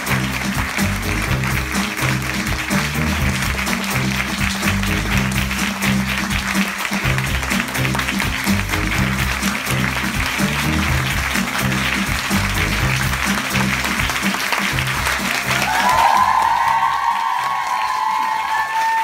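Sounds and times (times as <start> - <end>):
music with rhythmic bass line: 0.0 - 16.4
audience applauding: 0.0 - 19.0.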